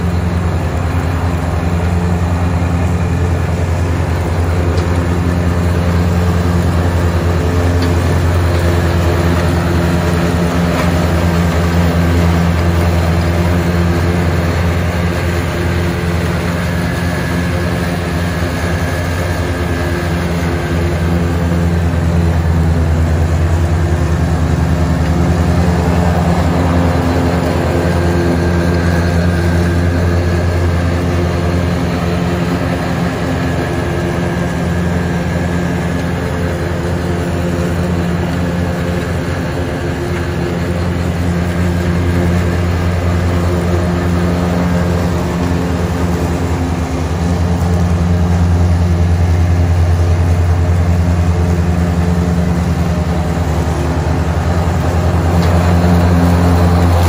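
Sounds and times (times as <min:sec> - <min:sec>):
mower cutting tall grass: 0:00.0 - 0:57.0
tractor diesel engine droning: 0:00.0 - 0:57.0.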